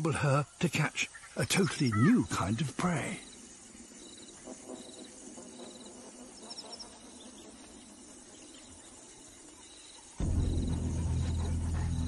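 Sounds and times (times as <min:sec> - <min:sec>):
insect trilling: 0:00.0 - 0:12.0.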